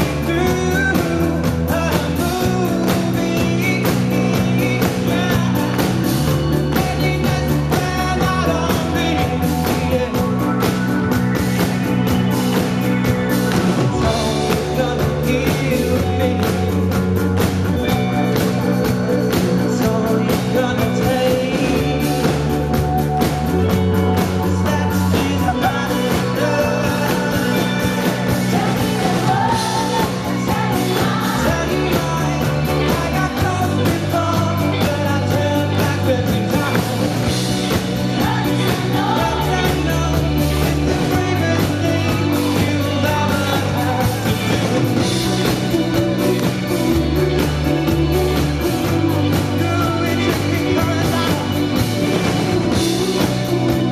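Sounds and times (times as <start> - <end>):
bass holding notes: 0.0 - 53.9
live band music: 0.0 - 53.9
man singing: 0.0 - 53.9.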